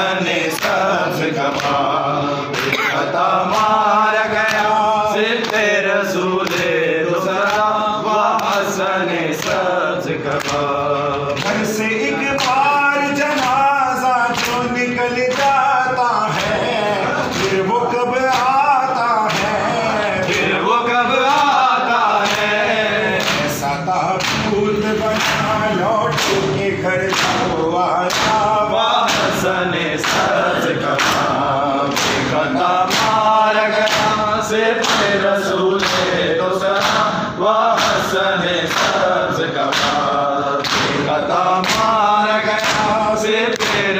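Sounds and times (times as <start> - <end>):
group of men singing along: 0.0 - 43.9
man singing a lament: 0.0 - 43.9.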